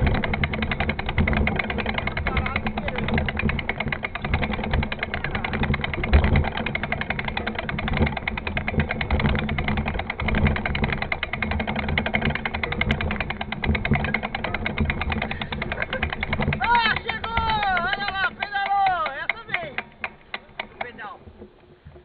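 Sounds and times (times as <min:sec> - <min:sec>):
mountain bike rattling on dirt trail: 0:00.0 - 0:22.0.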